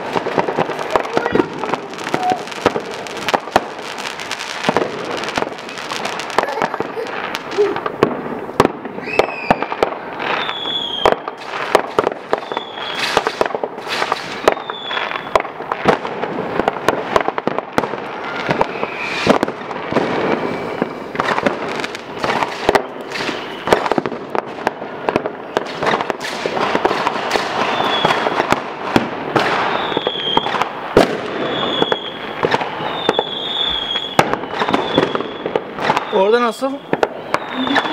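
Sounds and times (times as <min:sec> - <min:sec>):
rockets whistling: 0:00.0 - 0:15.4, 0:18.0 - 0:28.6, 0:29.4 - 0:37.9
fireworks bangs: 0:00.0 - 0:37.9
fireworks crackling: 0:00.0 - 0:37.9.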